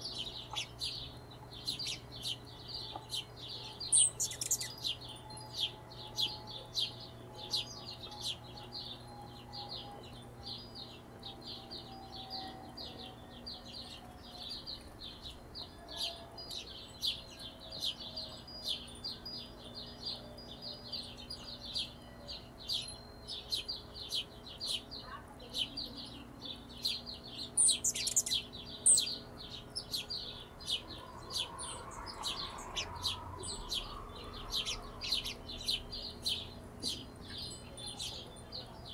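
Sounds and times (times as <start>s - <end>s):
hummingbirds chirping: 0.0s - 38.9s.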